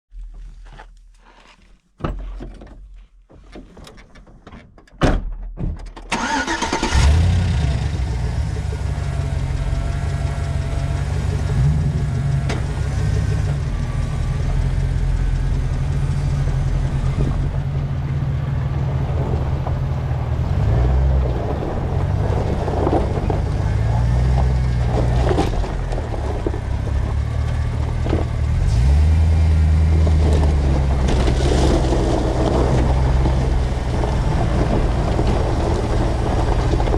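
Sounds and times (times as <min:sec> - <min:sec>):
pickup truck engine running: 0:06.2 - 0:36.9.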